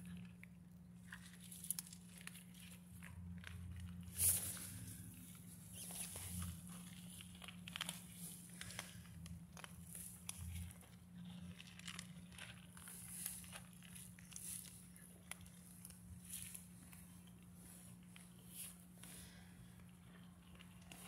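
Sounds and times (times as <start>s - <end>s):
cats eating dry kibble: 0.0s - 21.0s.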